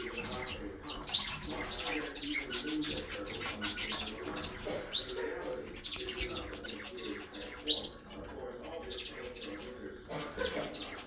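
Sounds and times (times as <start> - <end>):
parrots chirping and chattering: 0.0 - 11.0.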